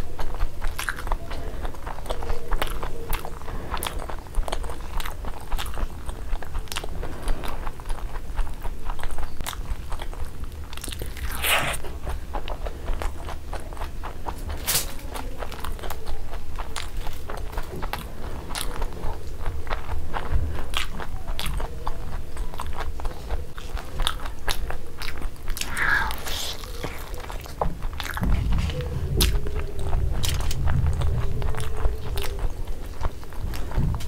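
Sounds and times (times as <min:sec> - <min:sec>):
chewing crispy food: 0:00.0 - 0:34.0.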